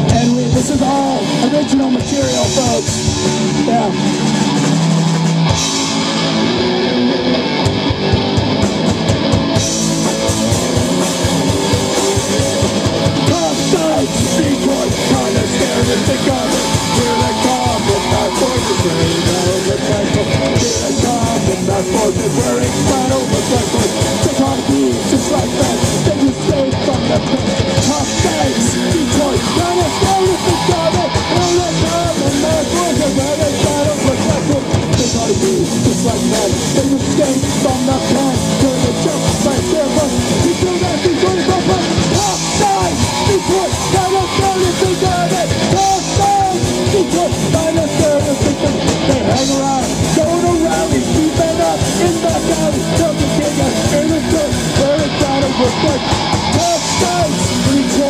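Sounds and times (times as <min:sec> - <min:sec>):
drum kit beat: 0:00.0 - 0:58.0
electric bass: 0:00.0 - 0:58.0
electric guitar: 0:00.0 - 0:58.0.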